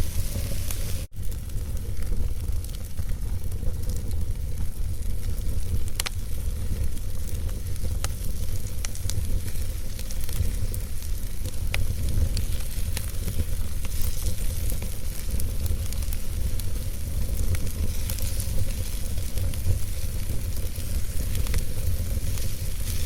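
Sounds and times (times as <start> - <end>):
fire rumbling: 0.0 - 23.0
logs crackling and popping: 0.0 - 23.0.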